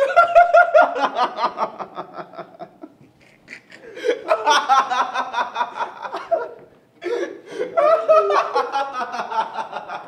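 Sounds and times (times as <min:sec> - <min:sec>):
young men laughing: 0:00.0 - 0:10.0.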